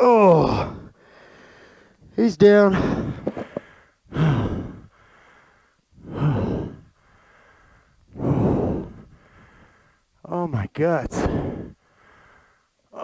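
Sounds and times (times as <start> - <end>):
man groaning breaths: 0.0 - 2.0, 2.6 - 10.0, 11.0 - 13.0.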